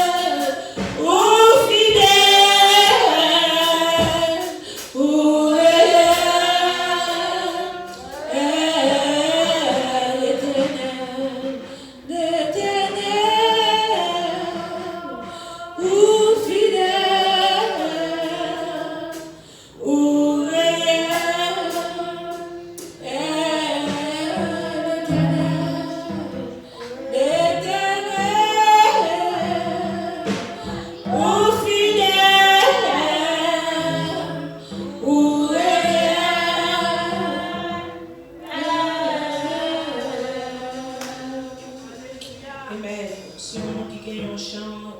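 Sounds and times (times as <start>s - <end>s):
congregation singing a hymn: 0.0s - 44.9s.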